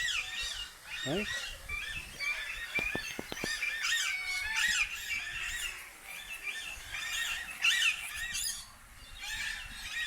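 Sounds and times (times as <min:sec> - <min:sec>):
birds squawking and chirping: 0:00.0 - 0:10.0.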